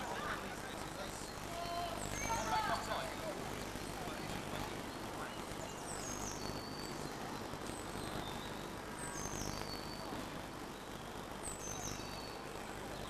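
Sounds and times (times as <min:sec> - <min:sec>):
steady background hiss: 0:00.0 - 0:13.0
small songbird singing: 0:00.8 - 0:02.9, 0:03.6 - 0:13.0.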